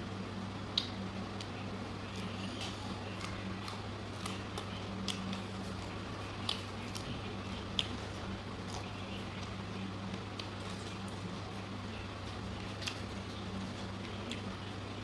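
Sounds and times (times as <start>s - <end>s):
steady low hum: 0.0s - 15.0s
person chewing food: 0.7s - 14.8s.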